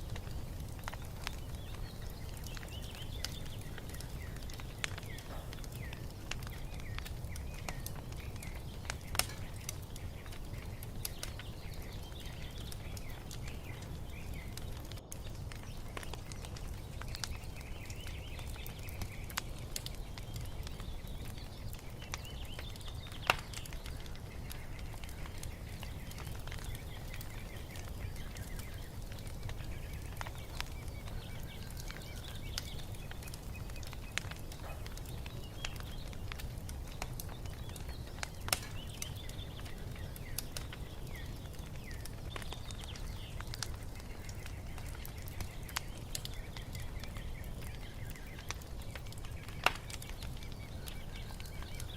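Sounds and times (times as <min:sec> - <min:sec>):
songbirds chirping faintly: 0:00.0 - 0:51.9
wood fire crackling and popping: 0:00.0 - 0:51.9.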